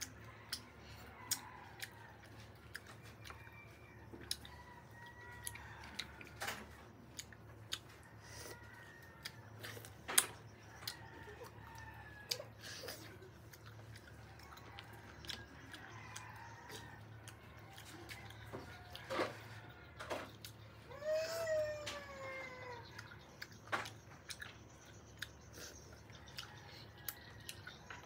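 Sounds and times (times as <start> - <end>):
chewing: 0.0 - 20.9, 22.3 - 28.0.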